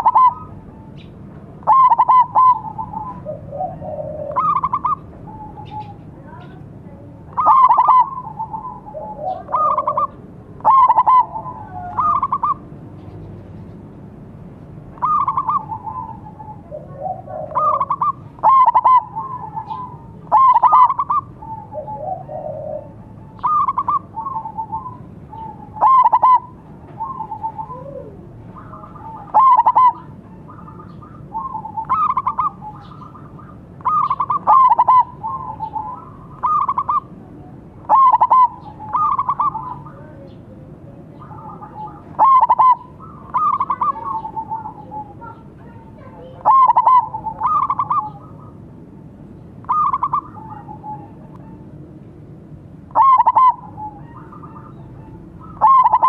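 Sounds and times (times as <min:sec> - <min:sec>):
doves cooing: 0:00.0 - 0:13.9, 0:14.7 - 0:56.0.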